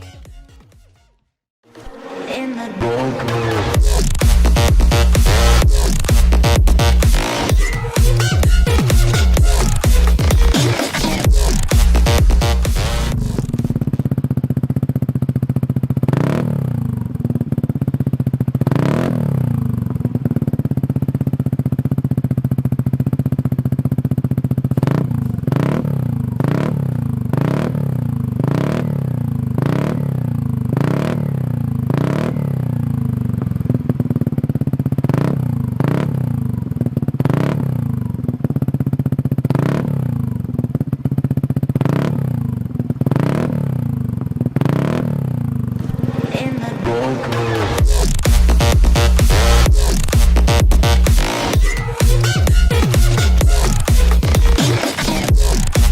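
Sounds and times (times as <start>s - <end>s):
motorcycle idling and revving: 2.8s - 55.9s.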